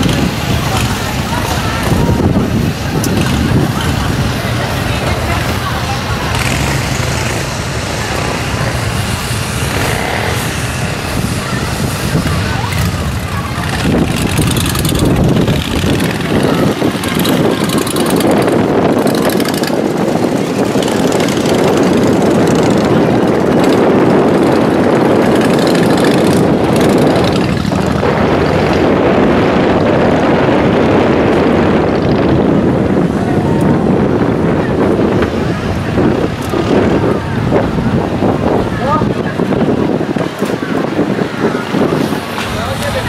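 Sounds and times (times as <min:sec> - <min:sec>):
propellers and motor: 0:00.0 - 0:43.0
wind buffeting microphone: 0:00.0 - 0:43.0.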